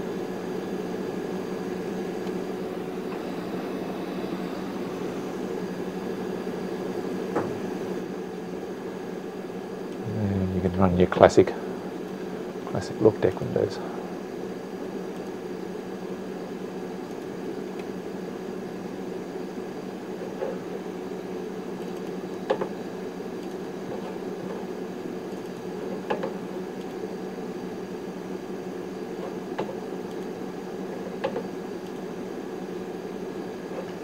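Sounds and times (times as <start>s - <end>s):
server cooling fans humming: 0.0s - 34.0s.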